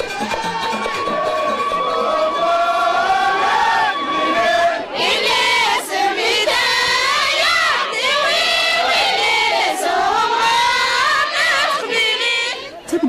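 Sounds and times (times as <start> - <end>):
crowd noise: 0.0 - 13.0
women singing a chant together: 2.1 - 12.8.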